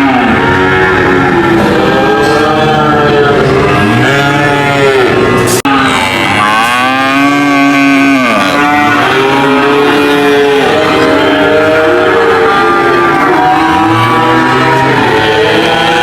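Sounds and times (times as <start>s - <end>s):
cattle mooing: 0.0s - 16.0s.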